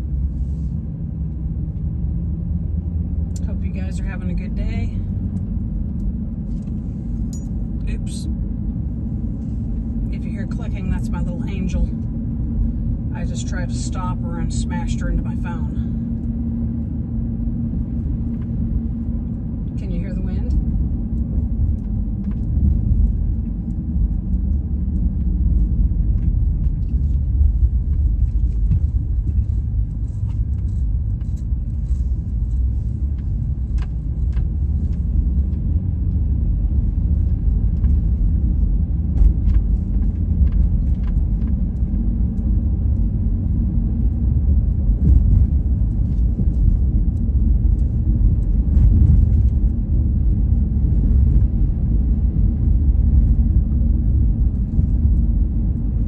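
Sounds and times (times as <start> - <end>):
road noise: 0.0 - 56.0
wind buffeting a car: 0.0 - 56.0.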